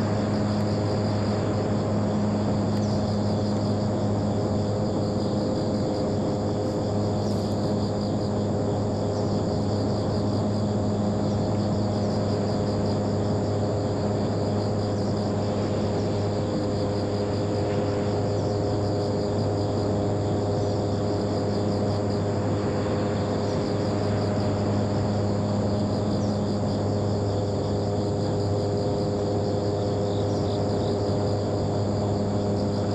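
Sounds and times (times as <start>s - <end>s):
model plane electric motor hum: 0.0s - 32.9s.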